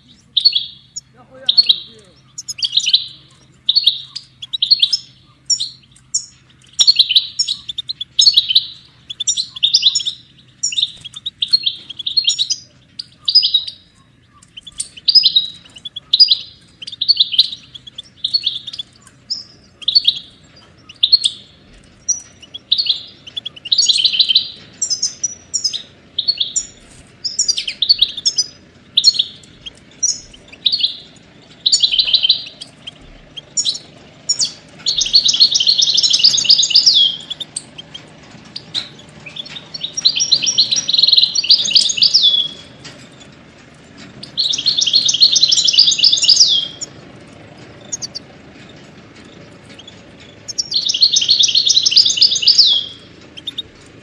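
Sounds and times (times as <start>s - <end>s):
finch twittering: 0.0s - 54.0s.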